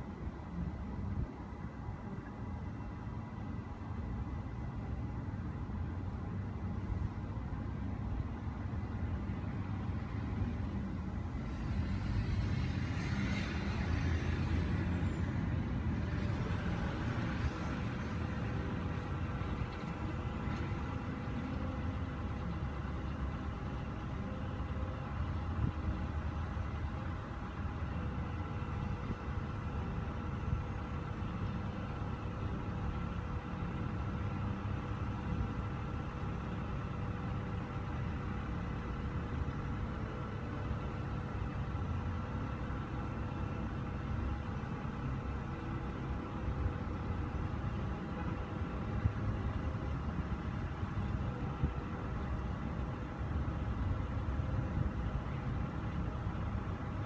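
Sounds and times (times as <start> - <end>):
vehicle engines rumbling: 0.0 - 57.0.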